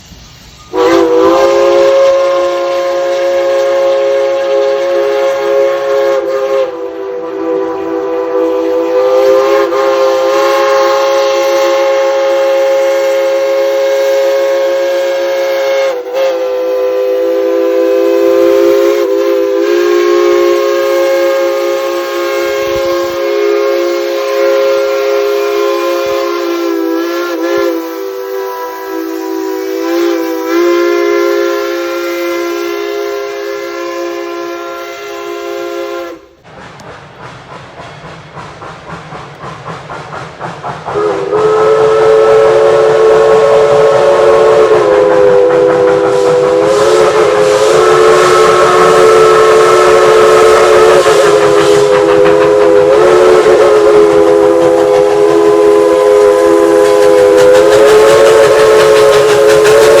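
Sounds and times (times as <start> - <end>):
steam locomotive whistle: 0.0 - 36.4, 38.0 - 60.0
steam exhaust chuffs: 0.0 - 60.0.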